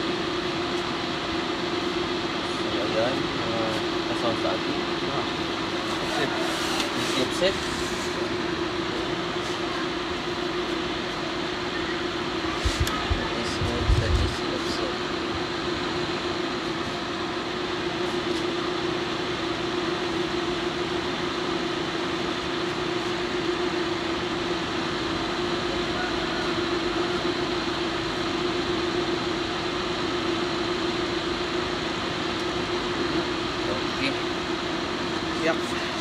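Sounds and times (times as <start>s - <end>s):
machine hum with hiss: 0.0s - 36.0s.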